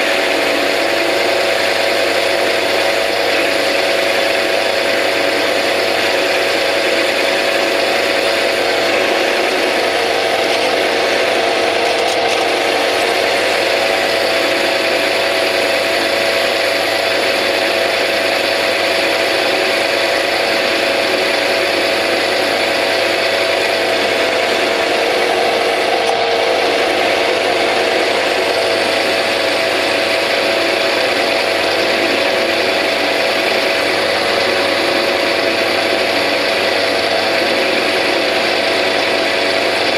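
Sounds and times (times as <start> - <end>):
constant gear hum: 0.0 - 39.9
metal lathe running: 0.0 - 39.9.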